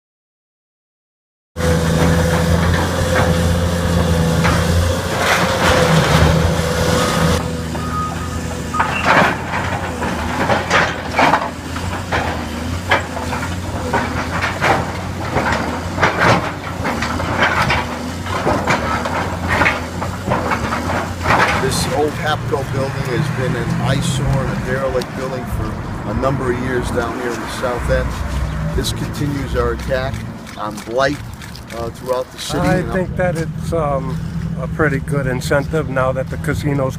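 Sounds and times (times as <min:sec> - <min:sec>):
diesel engine running with whine: 0:01.6 - 0:36.9
building crashes and crunches: 0:01.8 - 0:07.4, 0:08.6 - 0:32.8.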